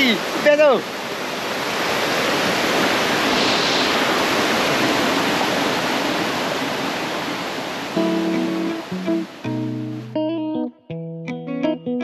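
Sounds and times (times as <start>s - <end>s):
waterfall rushing into pool: 0.0s - 10.0s.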